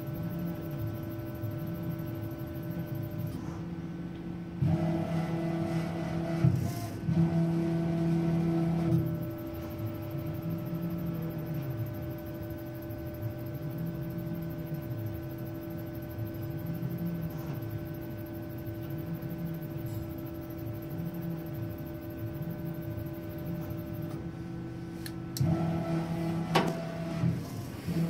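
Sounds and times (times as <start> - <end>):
printer humming: 0.0 - 28.0.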